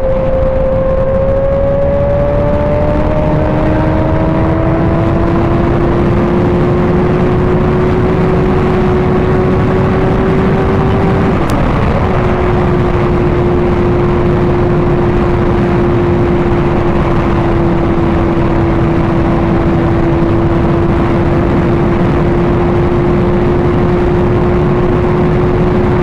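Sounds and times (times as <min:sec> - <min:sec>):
motorcycle engine: 0:00.0 - 0:26.0
wind noise: 0:00.0 - 0:26.0.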